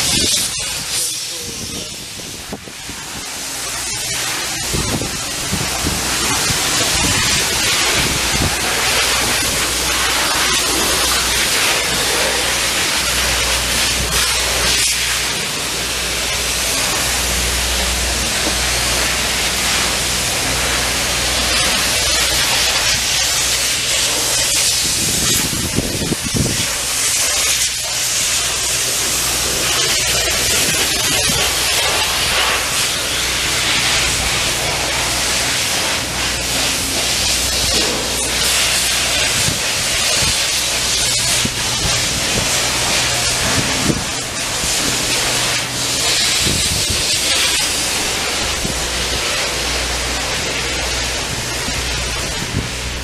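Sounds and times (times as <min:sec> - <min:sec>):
loud steady hissing: 0:00.0 - 0:53.0.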